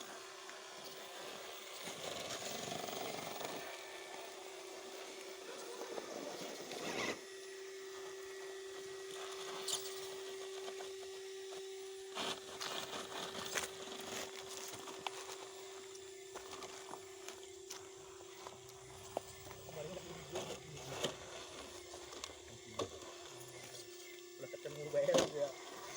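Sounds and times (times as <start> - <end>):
toy truck scraping over rocks: 0.0 - 24.0
electric motor whine: 0.0 - 25.9.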